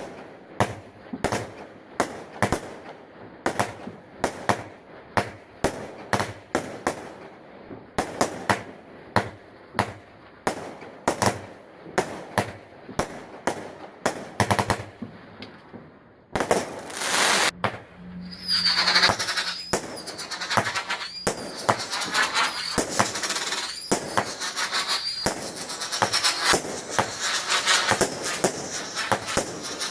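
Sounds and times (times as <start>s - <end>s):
fireworks banging and crackling: 0.0s - 29.9s.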